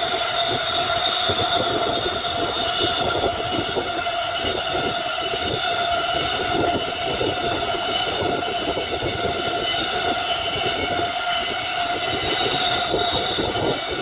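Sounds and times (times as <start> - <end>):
train wheels rumbling on rail: 0.0 - 14.0
train whine: 0.0 - 14.0.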